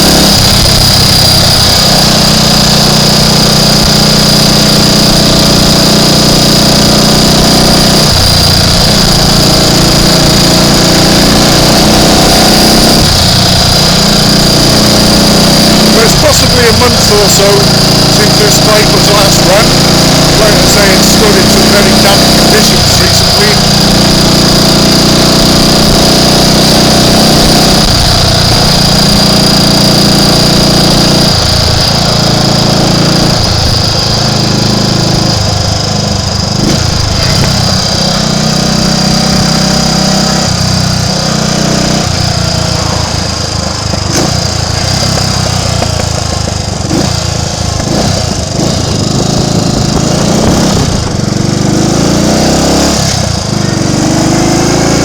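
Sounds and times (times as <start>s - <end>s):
engine misfire: 0.0s - 55.0s
motorcycle engine revving: 0.0s - 55.0s.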